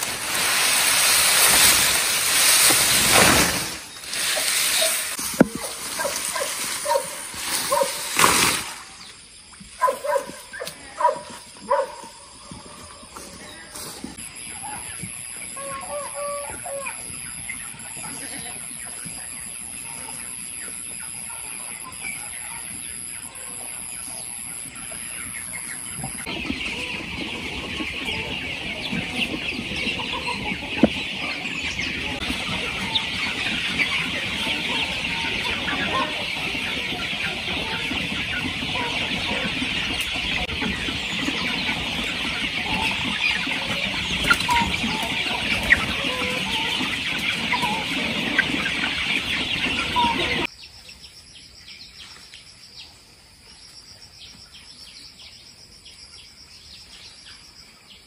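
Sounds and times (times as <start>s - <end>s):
chicks clucking and cheeping: 0.0s - 58.0s.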